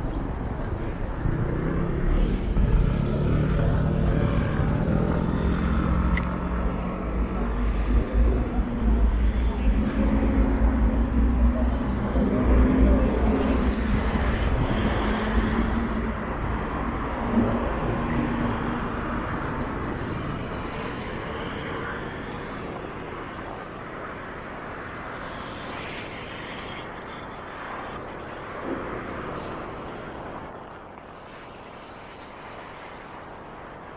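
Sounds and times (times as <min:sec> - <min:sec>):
city street traffic: 0:00.0 - 0:33.9.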